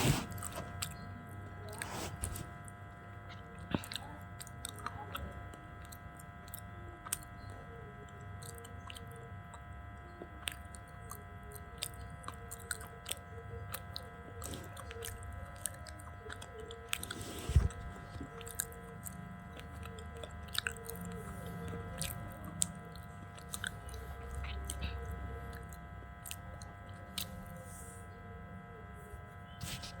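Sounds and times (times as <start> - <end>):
chewing and crunching slate: 0.0 - 7.6, 8.2 - 28.0
steady background hum: 0.0 - 30.0.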